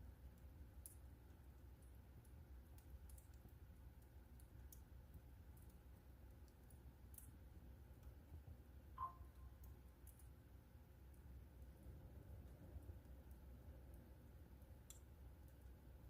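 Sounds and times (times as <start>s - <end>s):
low steady fire rumble: 0.0s - 16.0s
wood fire crackling: 0.0s - 16.0s.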